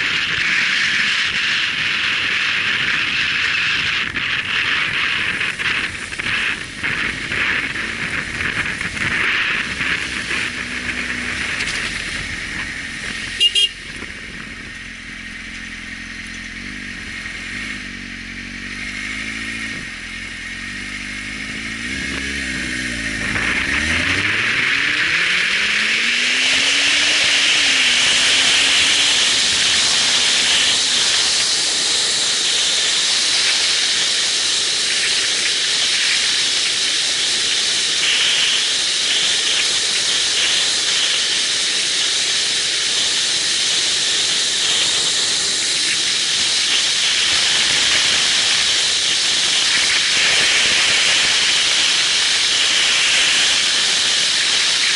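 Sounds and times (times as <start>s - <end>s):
wind rushing on microphone: 0.0s - 18.0s, 20.6s - 54.9s
motorcycle engine revving: 0.0s - 54.9s.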